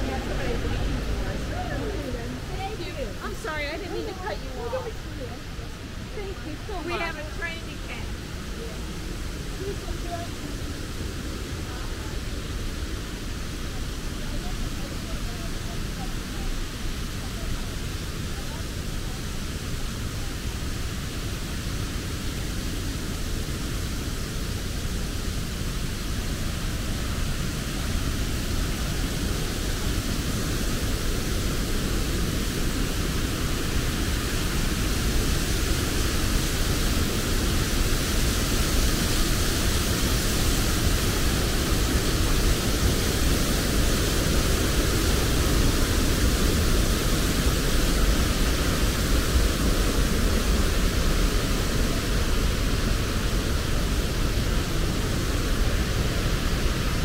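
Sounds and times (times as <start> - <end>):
river rushing over rapids: 0.0 - 57.0.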